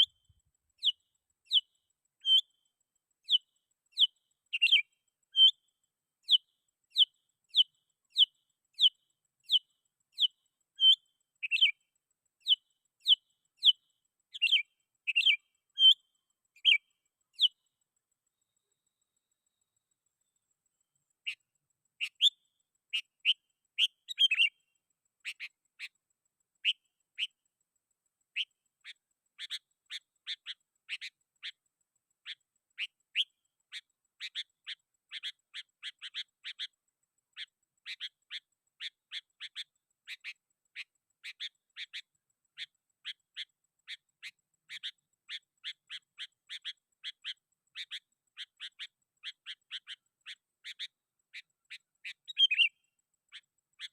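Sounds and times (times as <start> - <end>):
bulbul chirping: 0.0 - 17.8, 18.4 - 26.0, 26.6 - 27.4, 28.3 - 31.6, 32.2 - 53.9.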